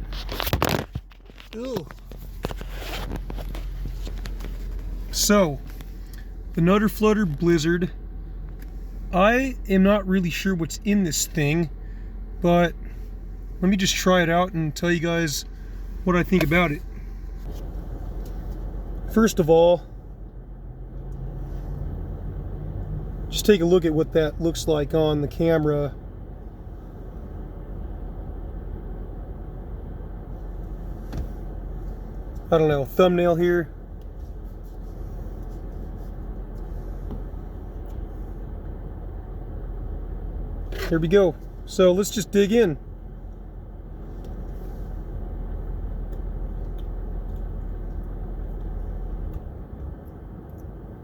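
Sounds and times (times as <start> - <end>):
low rumble inside car cabin: 0.0 - 51.0.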